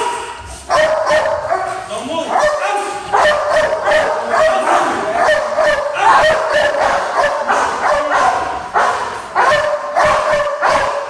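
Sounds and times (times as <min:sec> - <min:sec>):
dog barking rapidly: 0:00.0 - 0:11.0.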